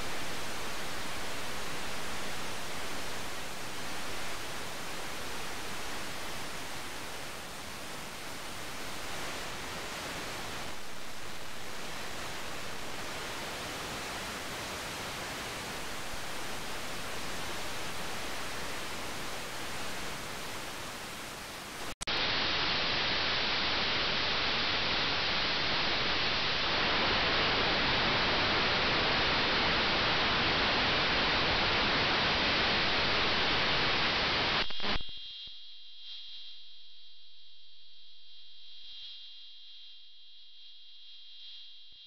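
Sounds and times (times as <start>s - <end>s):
radio static hiss: 0.0s - 35.5s.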